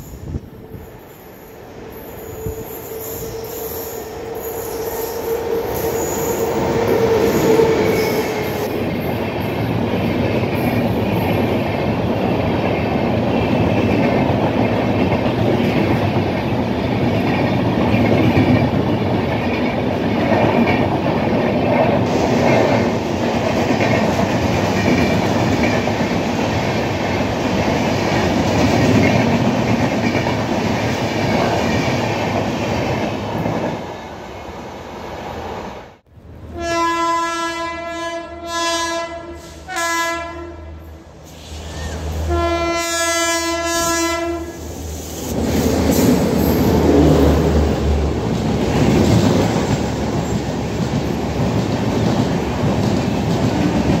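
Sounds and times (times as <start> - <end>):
train passing on rails: 0.0 - 54.0.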